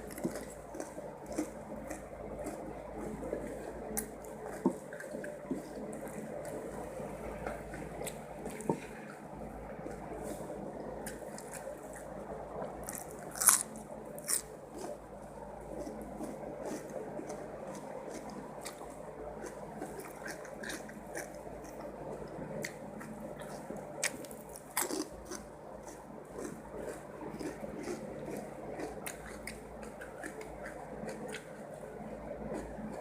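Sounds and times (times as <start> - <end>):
mouth chewing wetly: 0.0 - 9.2, 15.6 - 33.0.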